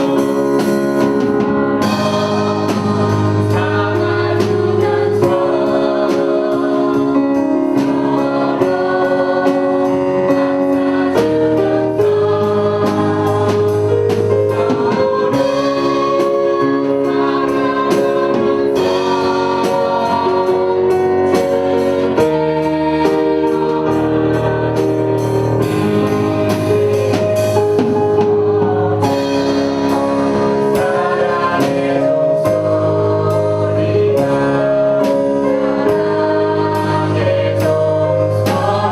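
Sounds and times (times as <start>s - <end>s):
choir singing a hymn: 0.0s - 38.9s
instrumental accompaniment: 0.0s - 38.9s.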